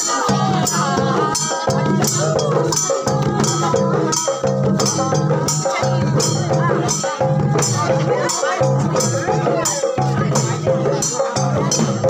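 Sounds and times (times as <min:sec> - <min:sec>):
barrel drum beating: 0:00.0 - 0:12.0
group folk singing: 0:00.0 - 0:12.0
jingling shaker percussion: 0:00.0 - 0:12.0.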